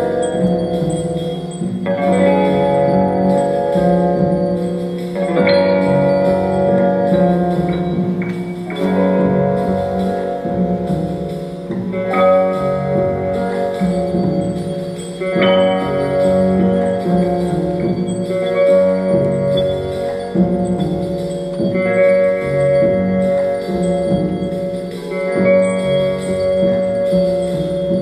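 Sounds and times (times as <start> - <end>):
ringing struck chords: 0.0 - 28.0.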